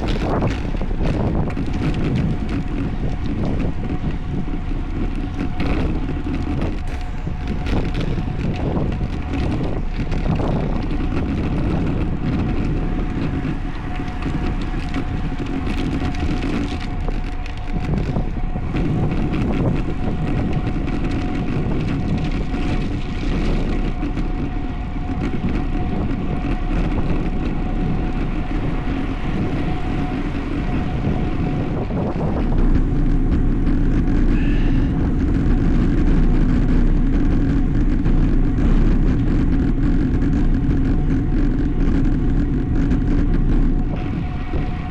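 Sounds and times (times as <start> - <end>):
wind noise on microphone: 0.0 - 44.9.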